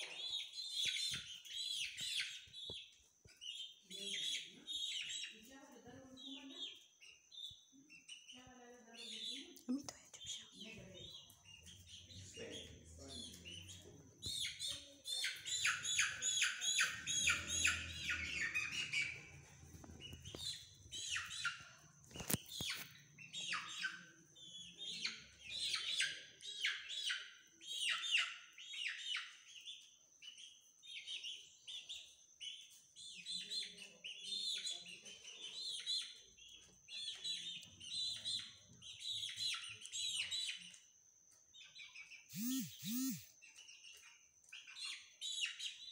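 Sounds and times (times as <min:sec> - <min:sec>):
young chickens peeping: 0:00.0 - 0:45.9.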